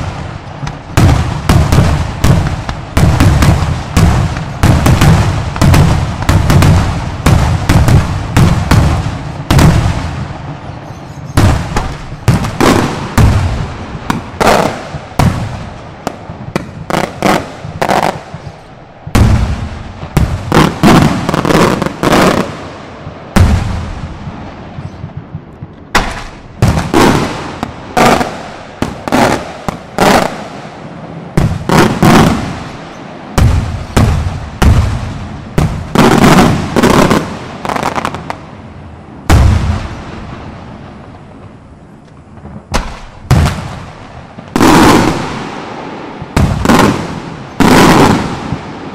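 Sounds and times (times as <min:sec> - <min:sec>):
fireworks sharp bangs: 0:00.0 - 0:48.9.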